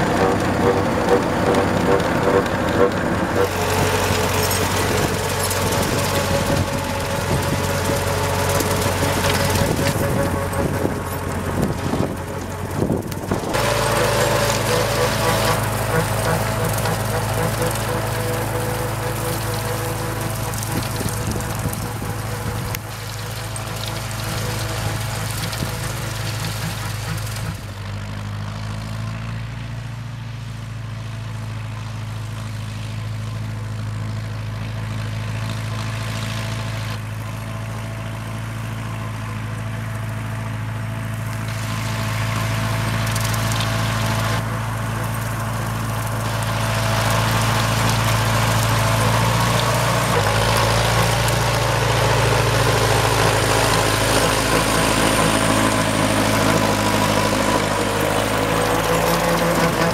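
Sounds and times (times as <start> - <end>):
rotary cutter through dry grass: 0.0 - 29.6, 31.1 - 59.9
tractor engine under load: 0.0 - 59.9.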